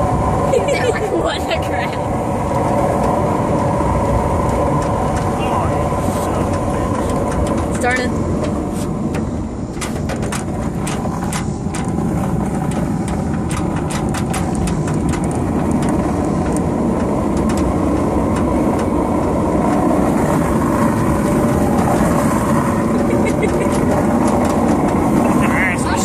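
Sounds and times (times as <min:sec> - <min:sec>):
pickup truck engine and road noise: 0:00.0 - 0:26.0
sharp clicks and rattles: 0:00.6 - 0:26.0.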